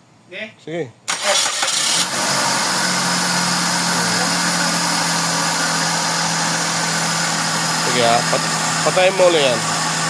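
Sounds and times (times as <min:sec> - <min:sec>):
car engine idling: 0:01.2 - 0:10.0.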